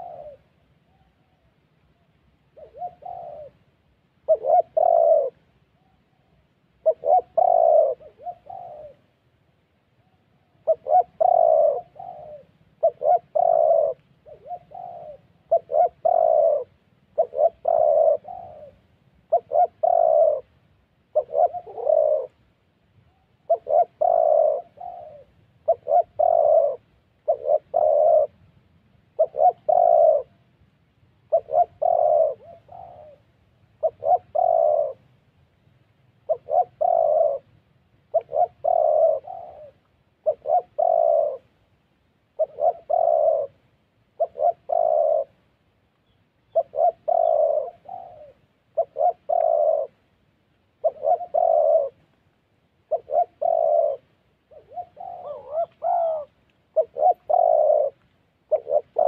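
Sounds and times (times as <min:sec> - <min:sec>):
doves cooing: 0:00.0 - 0:09.2, 0:10.0 - 0:22.5, 0:23.1 - 0:28.4, 0:29.1 - 0:30.4, 0:31.2 - 0:35.2, 0:36.2 - 0:41.6, 0:42.3 - 0:50.0, 0:50.7 - 0:52.2, 0:52.8 - 0:59.0.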